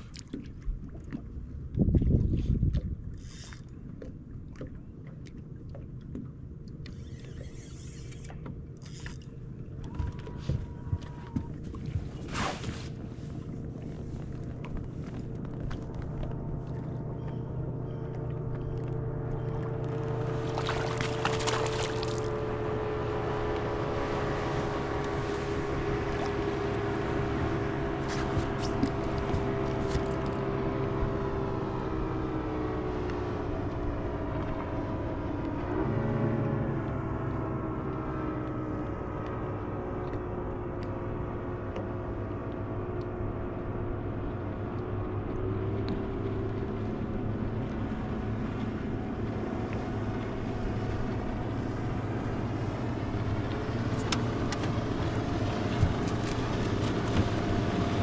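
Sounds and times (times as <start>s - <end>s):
outboard motor humming: 0.0s - 58.0s.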